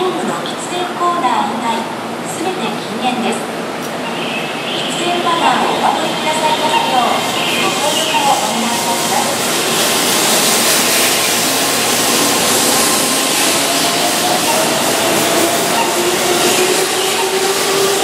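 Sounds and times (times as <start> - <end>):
wheels rushing on rail: 1.8 - 18.0.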